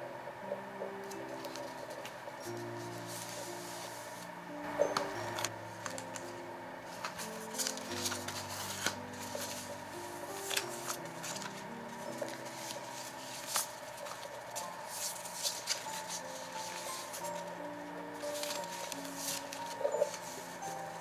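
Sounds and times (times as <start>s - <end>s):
soft background music: 0.0s - 21.0s
paper cards rustling: 1.0s - 21.0s.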